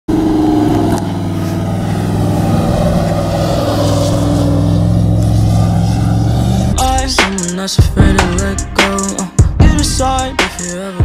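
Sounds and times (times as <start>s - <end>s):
suv engine running: 0.1s - 10.5s.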